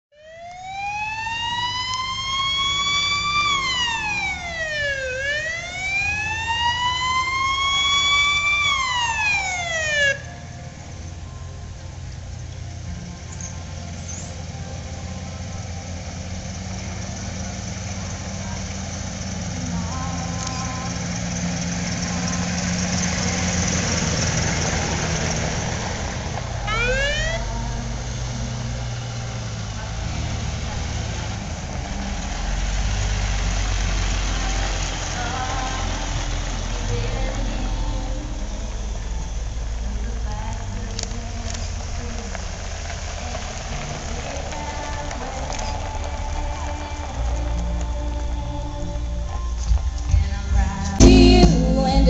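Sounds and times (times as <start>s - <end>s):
police siren wailing: 0.0s - 49.9s
low vehicle rumble: 0.0s - 52.0s.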